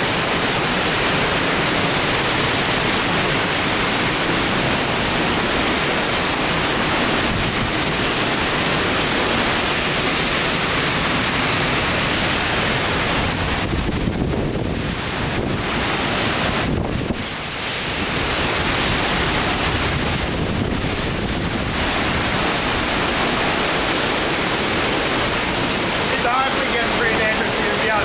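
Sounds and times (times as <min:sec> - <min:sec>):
driving rain: 0:00.0 - 0:28.0
hurricane-force wind: 0:00.0 - 0:28.0.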